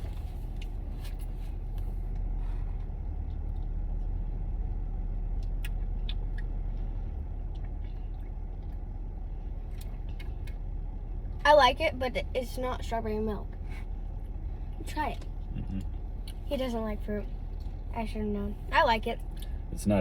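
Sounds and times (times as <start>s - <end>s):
car cabin low rumble: 0.0s - 20.0s.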